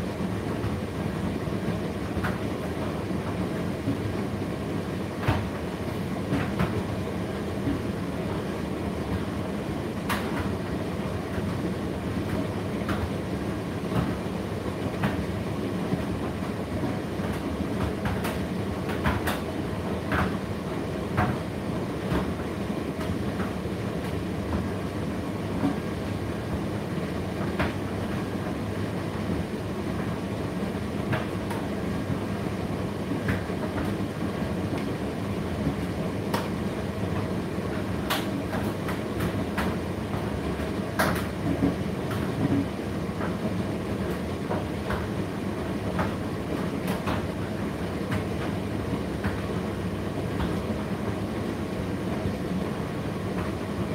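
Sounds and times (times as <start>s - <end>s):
tumble dryer running: 0.0s - 53.9s.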